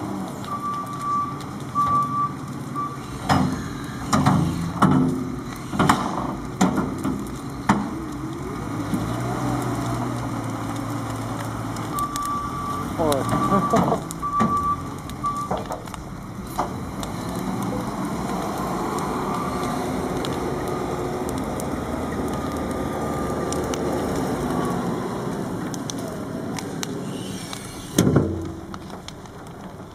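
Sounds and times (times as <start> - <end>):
bonfire crackling: 0.0 - 29.9
diesel engine running: 0.0 - 29.9.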